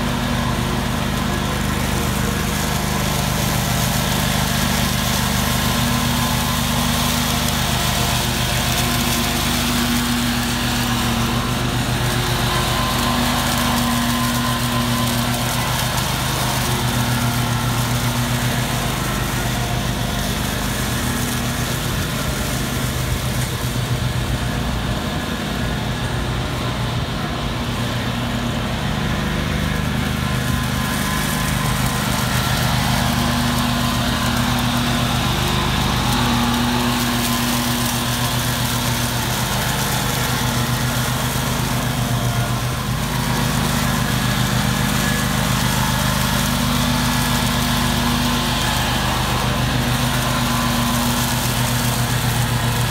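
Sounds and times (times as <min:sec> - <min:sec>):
mower blades mulching leaves: 0:00.0 - 0:52.9
mower engine running: 0:00.0 - 0:52.9.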